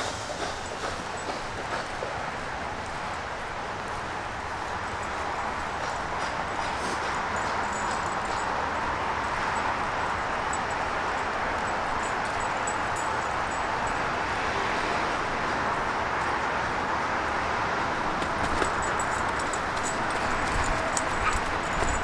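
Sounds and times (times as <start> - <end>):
outdoor rushing noise: 0.0 - 22.0.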